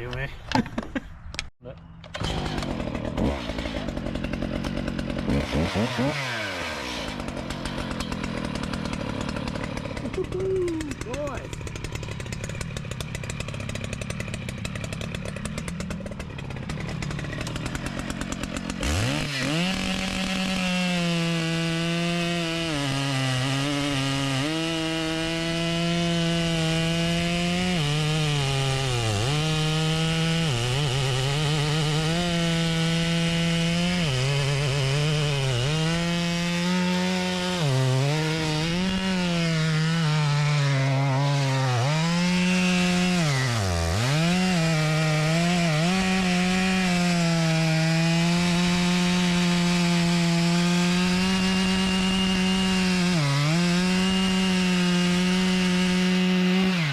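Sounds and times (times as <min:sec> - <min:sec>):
chainsaw cutting into a log: 0:02.0 - 0:56.9.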